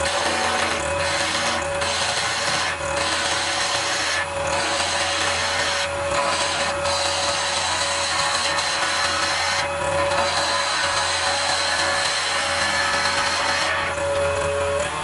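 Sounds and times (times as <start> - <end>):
chisel rasping on spinning wood: 0.0 - 15.0
wood lathe humming: 0.0 - 15.0.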